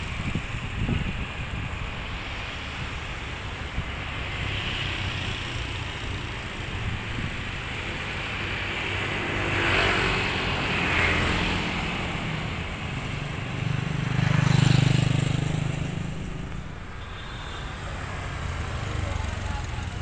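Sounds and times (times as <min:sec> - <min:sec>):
motorcycles riding past: 0:00.0 - 0:20.0
street traffic: 0:00.0 - 0:20.0.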